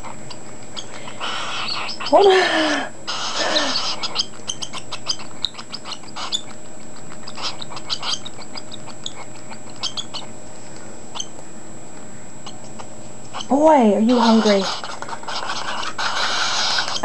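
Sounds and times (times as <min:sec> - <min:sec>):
bird chick begging chirps: 0:00.0 - 0:02.3, 0:03.1 - 0:10.4, 0:11.1 - 0:11.4, 0:12.2 - 0:17.0.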